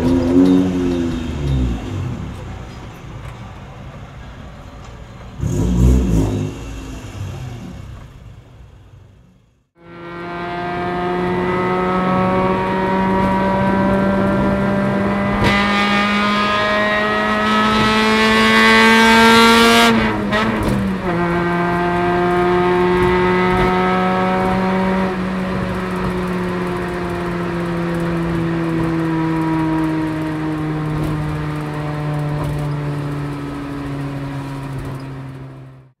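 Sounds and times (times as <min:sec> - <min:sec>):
car engine running hard: 0:00.0 - 0:35.9.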